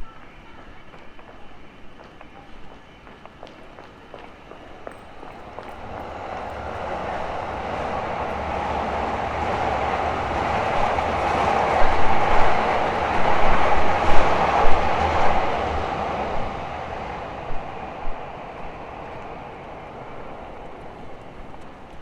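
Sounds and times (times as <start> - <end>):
train rumbling past: 0.0 - 22.0
wheels clacking on rails: 0.0 - 22.0.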